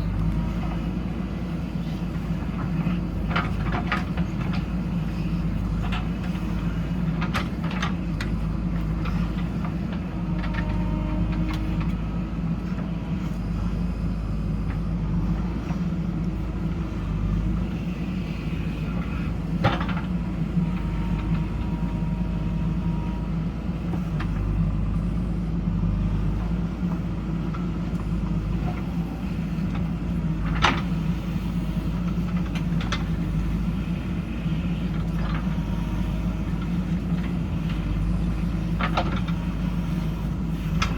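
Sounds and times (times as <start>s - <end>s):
backhoe diesel engine running: 0.0s - 40.9s.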